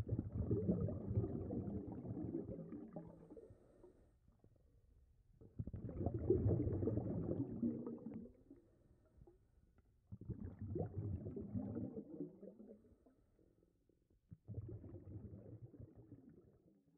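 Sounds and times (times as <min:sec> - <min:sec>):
underwater exhaled bubbles: 0:00.0 - 0:04.1, 0:05.4 - 0:09.4, 0:10.1 - 0:13.4, 0:14.3 - 0:16.8.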